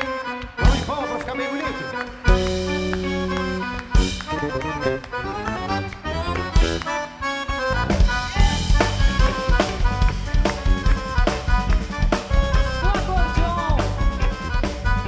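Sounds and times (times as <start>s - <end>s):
drum kit beat: 0.0s - 1.2s, 2.2s - 15.0s
band playing: 0.0s - 15.0s.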